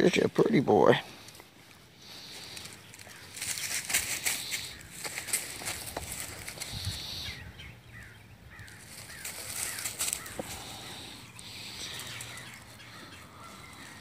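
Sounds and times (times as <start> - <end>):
puppy rustling through dry leaves: 2.0 - 7.4, 8.0 - 14.0.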